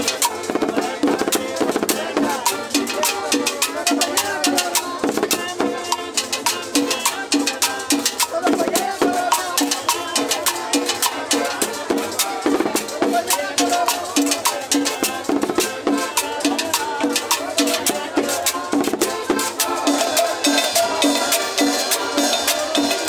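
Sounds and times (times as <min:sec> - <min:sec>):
cymbal beat: 0:00.0 - 0:23.0
street band playing cumbia: 0:00.0 - 0:23.0.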